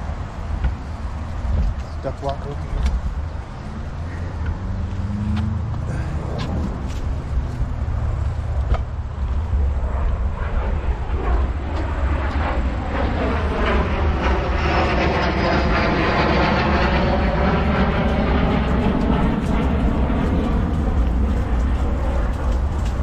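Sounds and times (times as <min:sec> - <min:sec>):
airplane flying over: 0:00.0 - 0:23.0
low rumble: 0:00.0 - 0:23.0.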